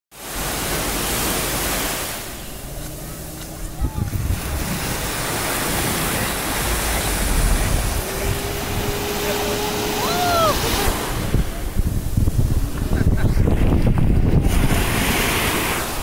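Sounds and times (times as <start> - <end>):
surf breaking on beach: 0.1 - 16.0
wind on microphone: 0.4 - 16.0.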